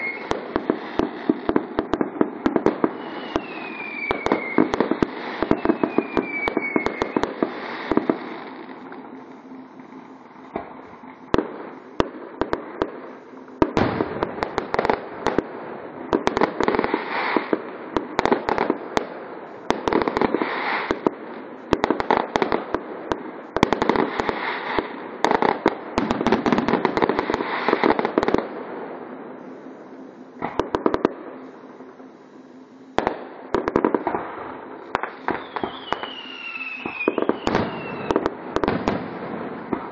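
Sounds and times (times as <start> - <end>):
fireworks bursting with sharp bangs: 0.0 - 39.9
fireworks crackling: 0.0 - 39.9.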